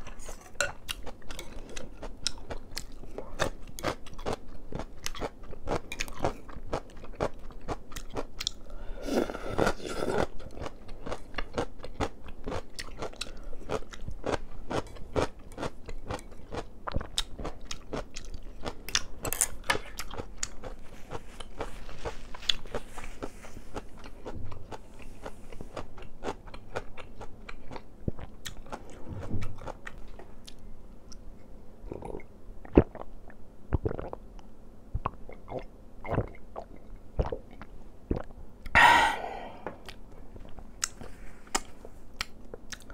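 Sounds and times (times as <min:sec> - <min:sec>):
person chewing and crunching food: 0:00.0 - 0:31.2, 0:31.9 - 0:33.1, 0:33.7 - 0:34.2, 0:35.0 - 0:42.9.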